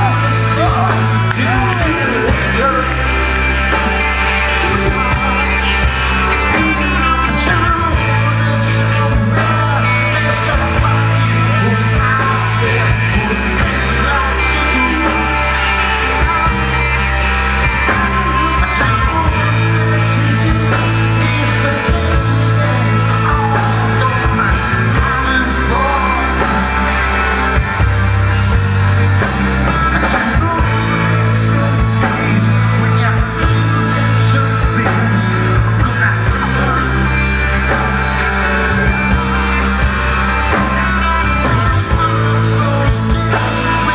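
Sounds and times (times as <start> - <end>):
bass notes: 0.0 - 43.9
guitars: 0.0 - 43.9
person singing: 0.0 - 43.9.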